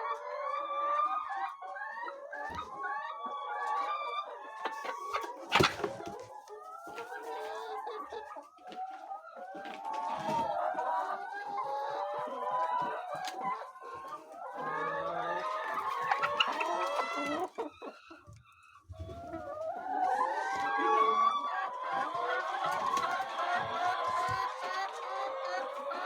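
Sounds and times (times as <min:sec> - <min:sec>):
hens clucking: 0:00.0 - 0:26.0.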